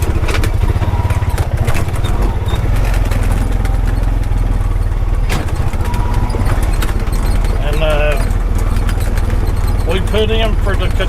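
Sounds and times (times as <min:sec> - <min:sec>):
vehicle engine running: 0:00.0 - 0:11.0
vehicle knocks and rattles: 0:00.0 - 0:11.0.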